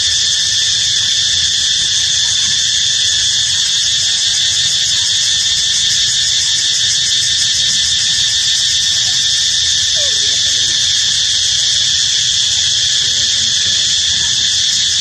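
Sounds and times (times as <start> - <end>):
shrill insect drone: 0.0 - 15.0.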